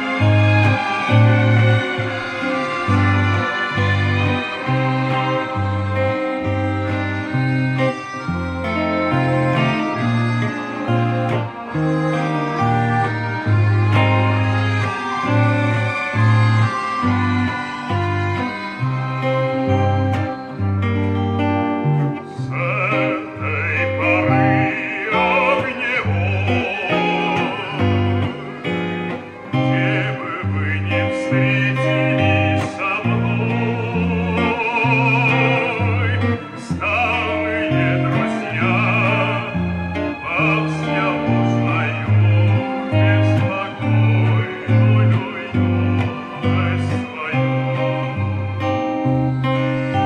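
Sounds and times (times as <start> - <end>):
electric guitar chords: 0.0 - 50.0
gliding melody line: 0.0 - 50.0.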